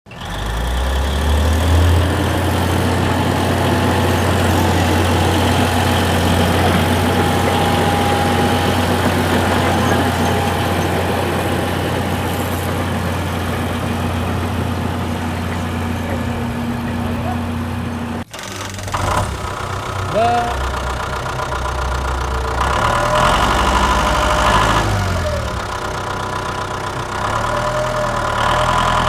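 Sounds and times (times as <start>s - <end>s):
engine idling: 0.1s - 29.0s.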